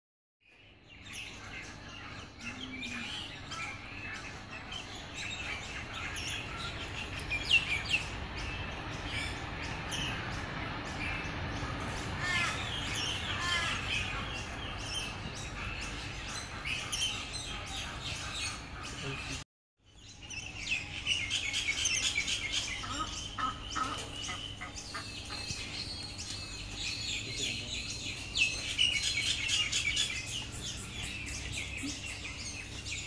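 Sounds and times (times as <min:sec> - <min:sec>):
birds chirping and whistling: 0:00.6 - 0:33.0.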